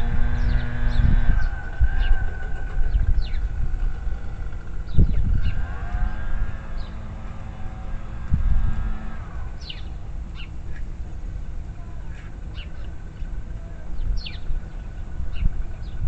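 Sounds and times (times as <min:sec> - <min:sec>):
low steady rumble: 0:00.0 - 0:16.0
small songbirds chirping: 0:00.0 - 0:16.0
steady humming tone: 0:00.0 - 0:16.0.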